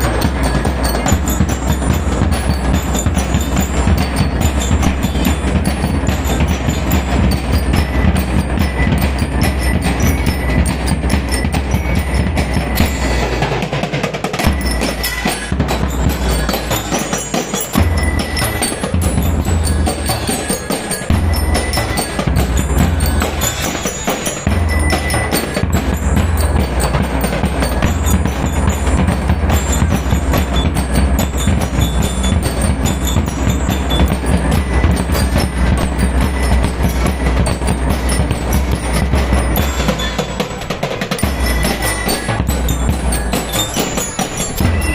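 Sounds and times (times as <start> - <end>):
bell lyres ringing: 0.0 - 44.9
marching drums beating: 0.0 - 44.9.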